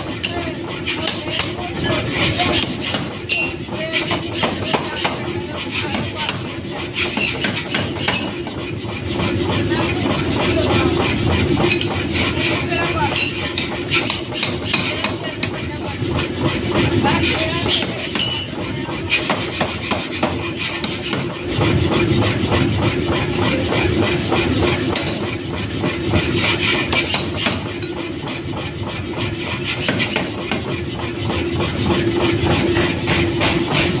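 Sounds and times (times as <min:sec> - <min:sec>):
power hammer pounding metal: 0:00.0 - 0:34.0
steady machine hum: 0:00.0 - 0:34.0.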